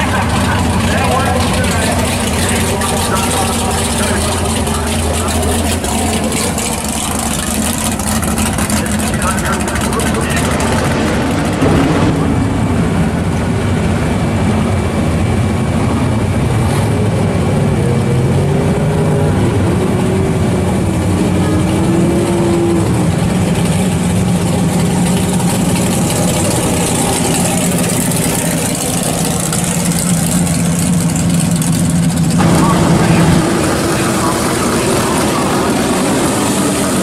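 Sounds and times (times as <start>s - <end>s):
drag car engines idling: 0.0s - 37.0s.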